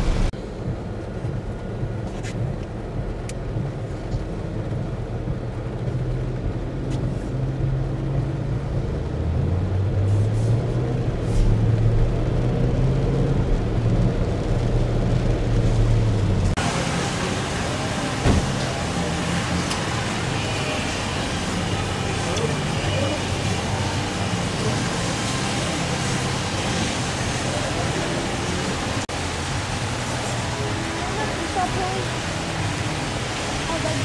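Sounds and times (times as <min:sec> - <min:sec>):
vehicle engines running: 0:00.0 - 0:34.0
tyres hissing on wet pavement: 0:03.7 - 0:34.0.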